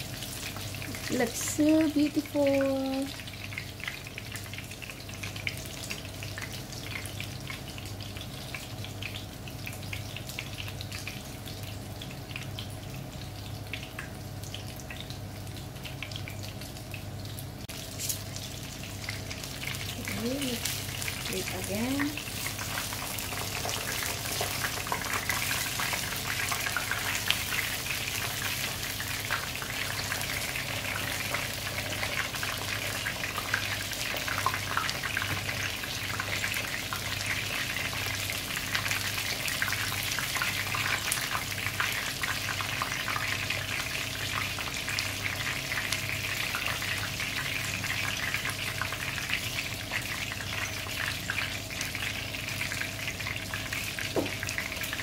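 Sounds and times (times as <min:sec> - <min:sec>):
fish frying in hot oil: 0:00.0 - 0:55.0.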